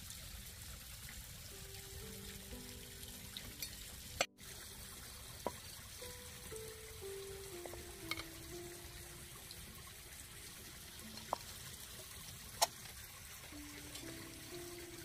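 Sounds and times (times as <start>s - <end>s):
soft slow background music: 1.5s - 15.0s.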